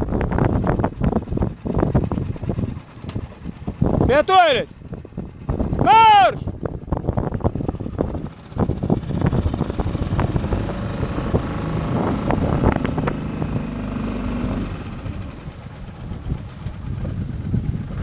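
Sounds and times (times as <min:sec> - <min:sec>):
small outboard motor: 0:00.0 - 0:05.8, 0:06.5 - 0:18.0
wind buffeting microphone: 0:00.0 - 0:18.0.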